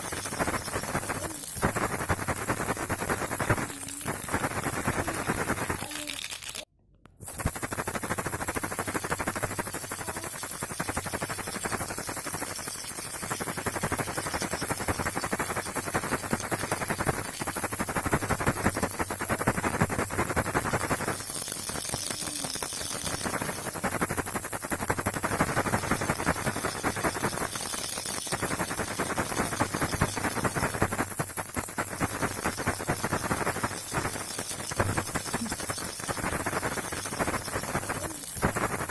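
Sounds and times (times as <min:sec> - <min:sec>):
baby rattle shaken: 0:00.0 - 0:38.9.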